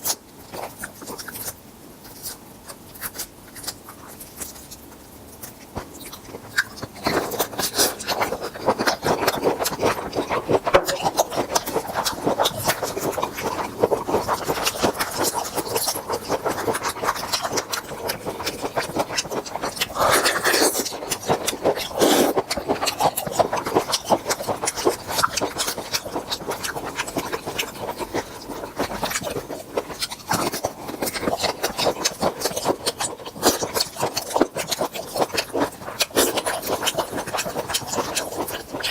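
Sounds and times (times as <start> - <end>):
prawn shells crunching while eating: 0.0 - 38.9.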